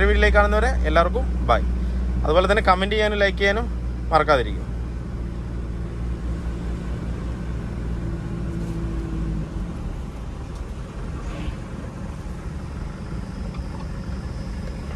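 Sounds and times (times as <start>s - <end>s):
car engine hum: 0.0s - 14.9s
road noise: 0.0s - 14.9s.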